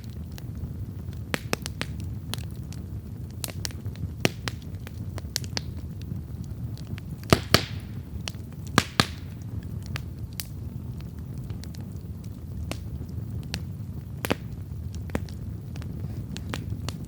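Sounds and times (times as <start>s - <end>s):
campfire crackling: 0.0s - 17.0s
loud fire pops with hiss: 0.0s - 17.0s.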